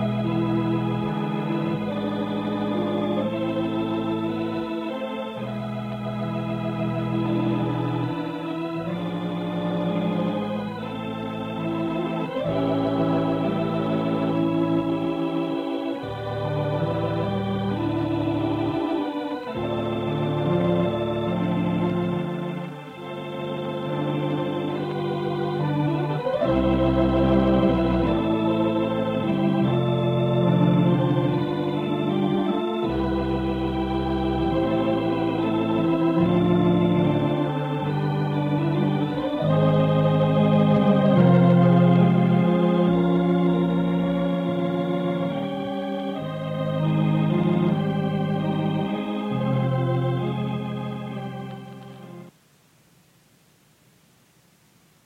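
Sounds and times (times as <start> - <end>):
organ chords over pedal bass: 0.0 - 52.3.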